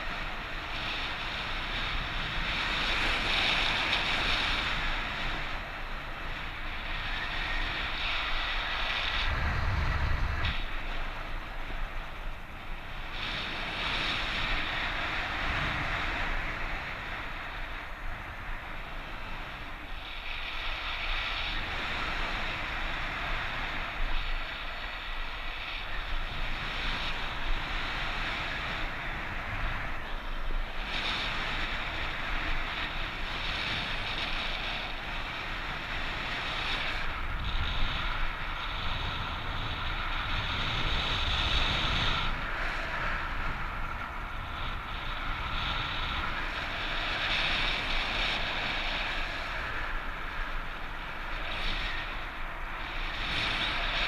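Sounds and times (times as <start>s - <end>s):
strong wind on microphone: 0.0s - 54.0s.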